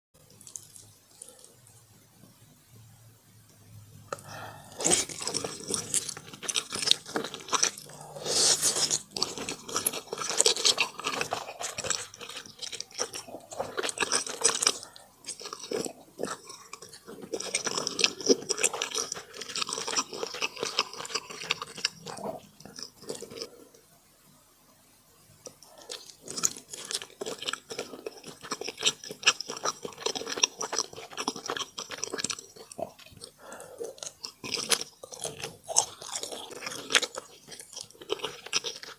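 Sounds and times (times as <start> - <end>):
person chewing crunchy food: 0.2 - 1.8, 4.1 - 23.8, 25.4 - 38.9.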